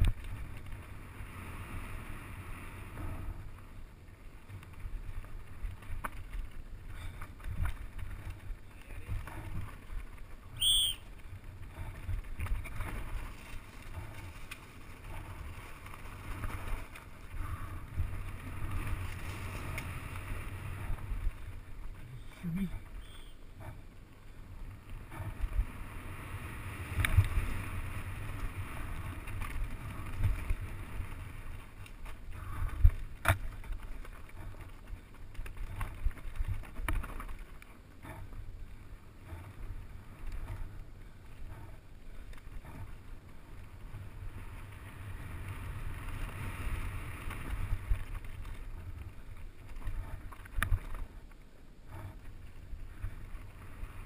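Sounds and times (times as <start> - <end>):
bike tyres rumbling on dirt: 0.0 - 54.0.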